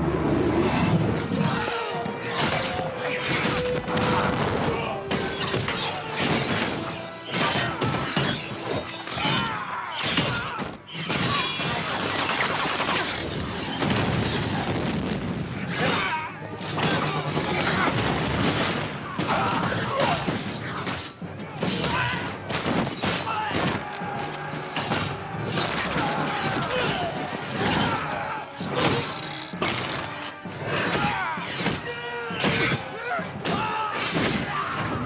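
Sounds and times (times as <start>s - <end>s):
orchestral film music: 0.0s - 35.0s
blade strikes and metal clashes: 1.1s - 14.7s, 15.5s - 32.8s.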